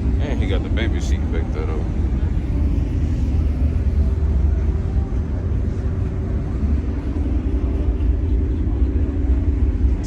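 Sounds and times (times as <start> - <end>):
car engines idling: 0.0 - 10.0
steady low rumble: 0.0 - 10.0.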